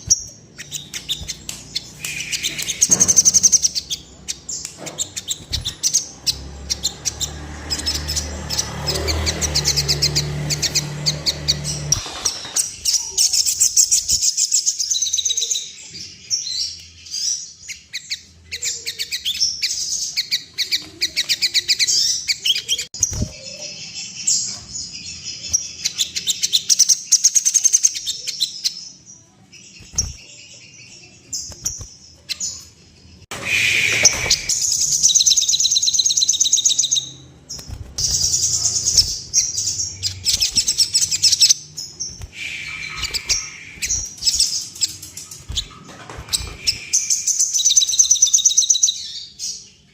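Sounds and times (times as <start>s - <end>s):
sunbird singing chattering trills: 0.0s - 29.0s, 29.6s - 49.9s.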